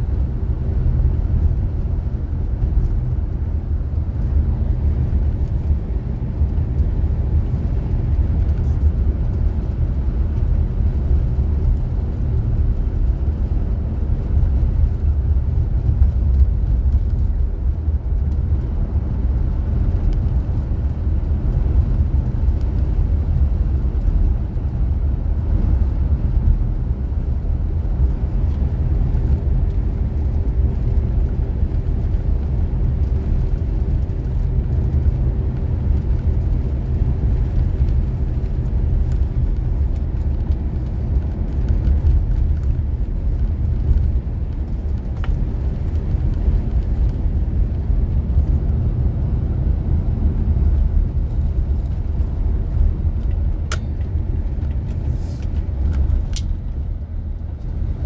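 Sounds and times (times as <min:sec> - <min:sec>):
car driving rumble from inside: 0:00.0 - 0:58.0.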